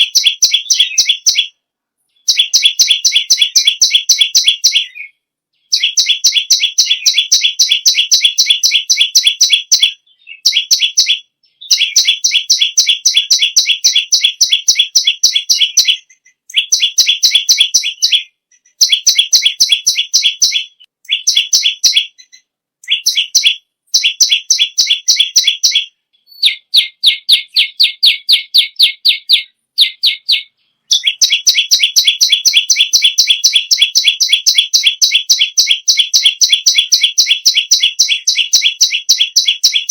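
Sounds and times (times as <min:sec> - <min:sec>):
bird singing sharp repeated notes: 0:00.0 - 0:39.9.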